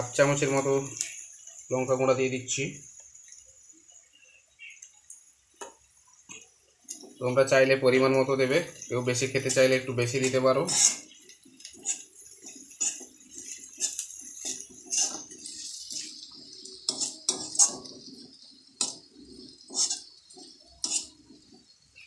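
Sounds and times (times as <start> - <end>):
hot oil sizzling: 0.0 - 22.0.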